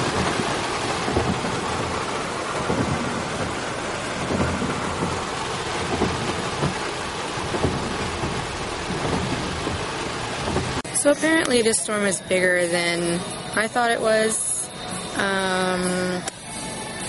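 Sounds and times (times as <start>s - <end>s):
heavy rain on car windshield: 0.0s - 17.0s.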